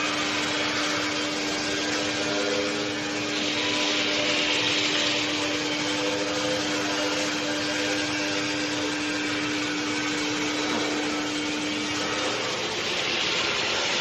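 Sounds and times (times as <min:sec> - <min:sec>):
furnace hum with low tone: 0:00.0 - 0:14.0.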